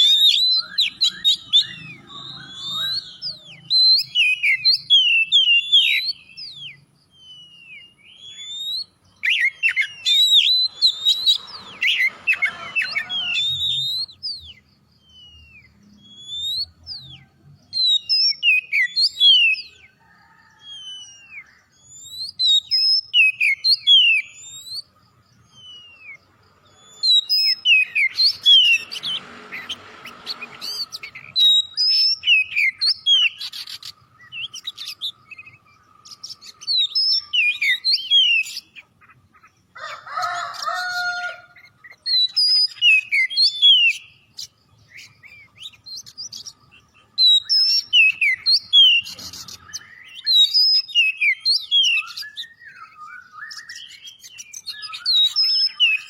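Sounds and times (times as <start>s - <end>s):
songbird singing whistles and chirps: 0.0s - 56.0s.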